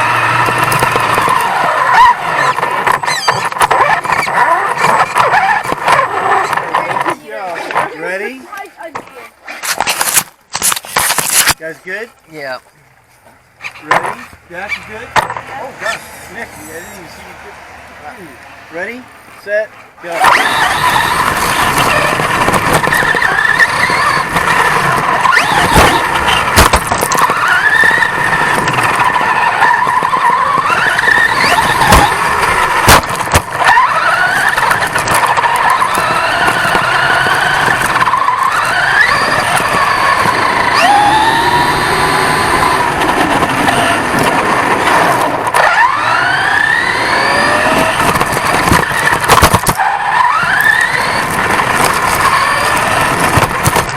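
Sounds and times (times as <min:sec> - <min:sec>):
toy truck motor whining: 0:00.0 - 0:07.9, 0:15.8 - 0:17.3, 0:20.1 - 0:53.9
tyre and chassis noise: 0:00.0 - 0:53.9.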